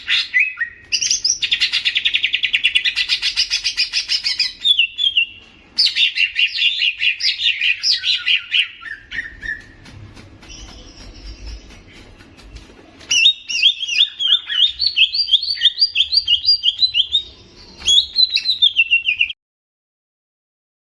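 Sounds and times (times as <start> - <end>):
bird singing fast trills: 0.0 - 9.8, 10.4 - 12.5, 13.1 - 19.4.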